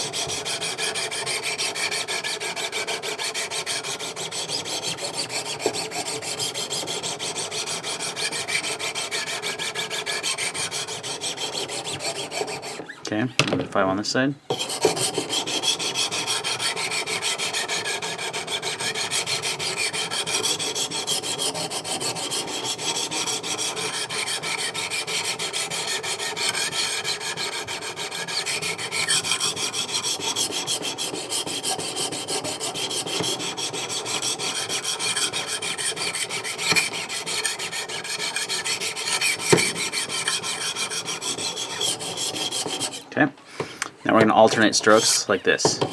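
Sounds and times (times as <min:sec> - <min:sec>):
sharpening stones rasping on blade: 0:00.0 - 0:12.8, 0:14.5 - 0:43.1.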